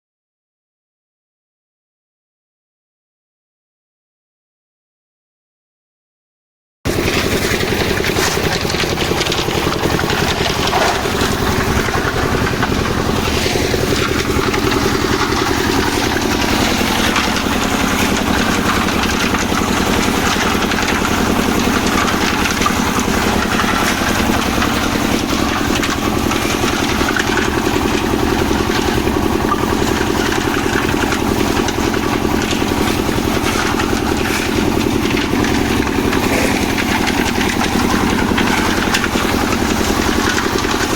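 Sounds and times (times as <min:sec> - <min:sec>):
engine running steadily: 0:06.9 - 0:40.9.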